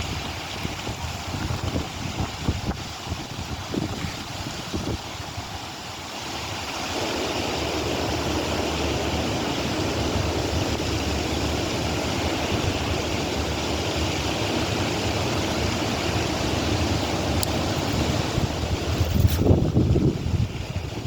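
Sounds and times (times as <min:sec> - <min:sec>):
wind blowing across microphone: 0:00.0 - 0:21.0.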